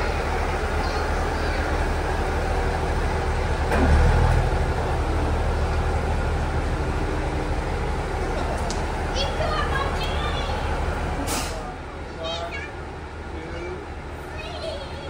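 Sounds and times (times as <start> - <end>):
diesel railcar engine idling: 0.0 - 15.0.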